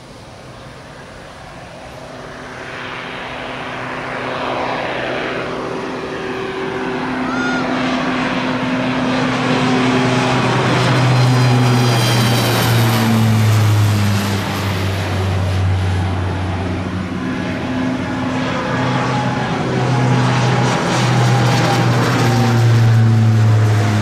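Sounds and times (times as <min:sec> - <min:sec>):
turboprop aircraft propeller drone: 0:00.0 - 0:24.0.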